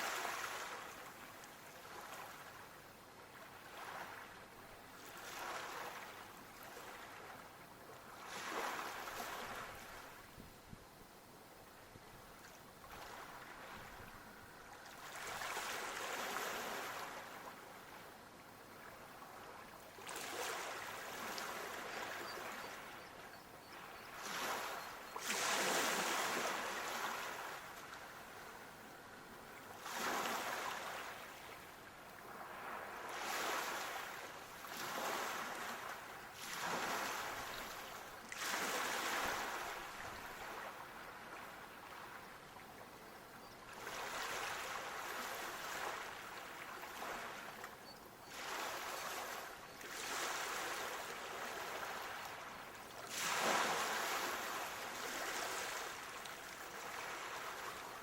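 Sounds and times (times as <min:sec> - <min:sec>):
sea waves breaking on shore: 0:00.0 - 0:10.3, 0:12.4 - 0:43.0, 0:43.7 - 0:58.0.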